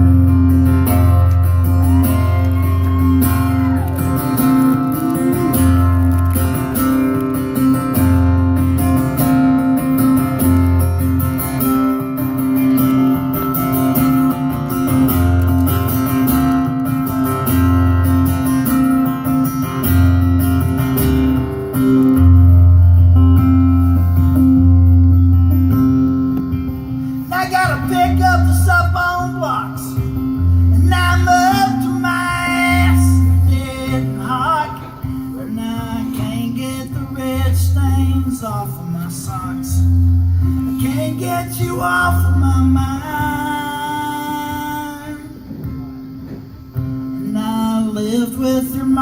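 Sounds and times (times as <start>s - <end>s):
acoustic guitar strumming: 0.0s - 49.0s.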